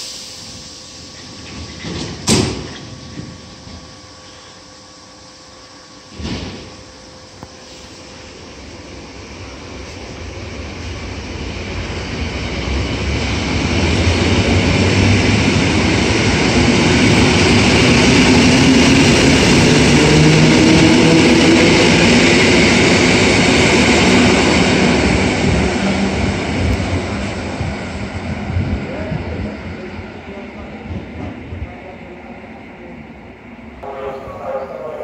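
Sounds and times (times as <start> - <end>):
train wheels rumbling on rails: 0.0 - 4.5, 6.1 - 33.0
train low hum: 0.0 - 35.0.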